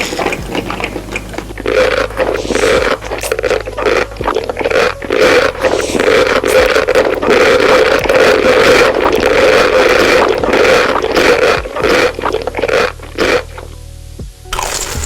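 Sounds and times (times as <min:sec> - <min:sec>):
close-miked chewing: 0:00.0 - 0:15.0.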